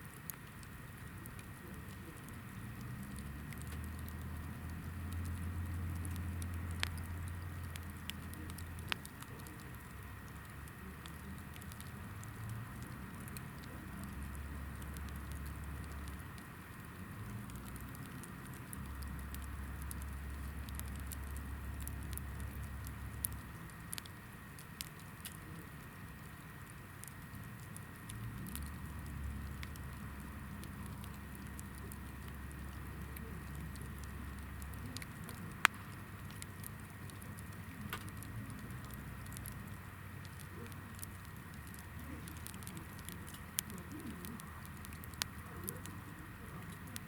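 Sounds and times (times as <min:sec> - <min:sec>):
firewood crackling and popping: 0:00.0 - 0:47.0.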